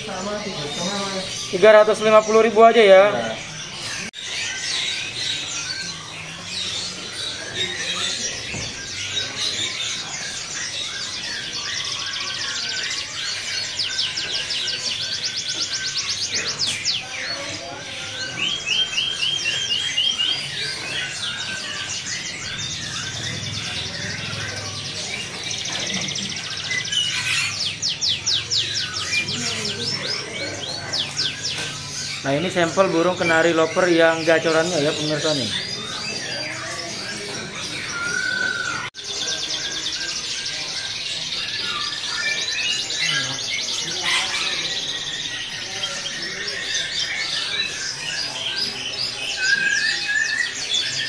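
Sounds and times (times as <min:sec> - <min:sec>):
canary singing trills and chirps: 0:00.0 - 0:51.0.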